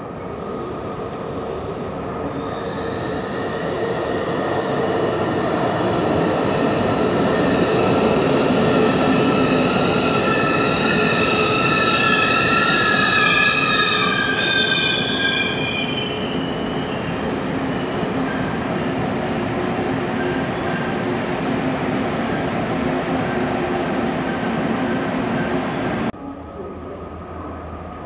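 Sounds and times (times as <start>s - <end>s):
train wheel squeal: 0.3s - 26.1s.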